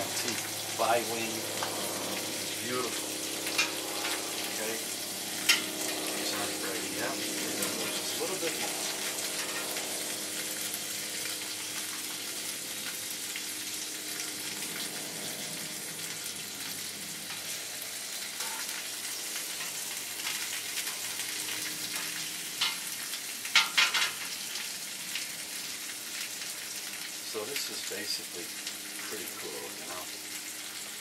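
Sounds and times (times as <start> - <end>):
chicken wings sizzling on griddle: 0.0 - 31.0.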